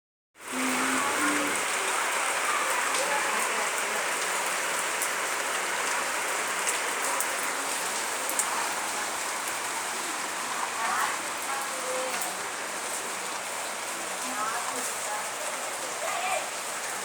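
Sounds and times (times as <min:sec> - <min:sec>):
rain falling: 0:00.4 - 0:17.0.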